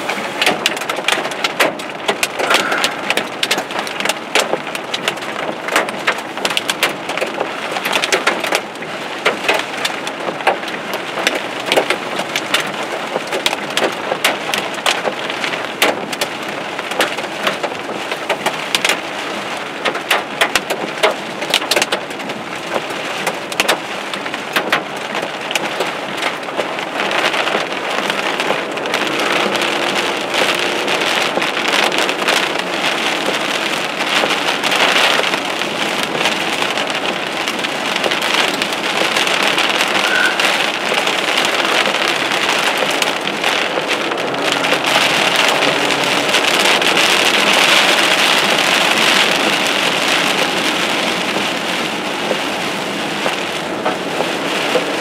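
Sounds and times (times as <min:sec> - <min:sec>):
heavy rain on car: 0:00.0 - 0:55.0
raindrops tapping on glass: 0:00.4 - 0:19.1, 0:19.7 - 0:55.0.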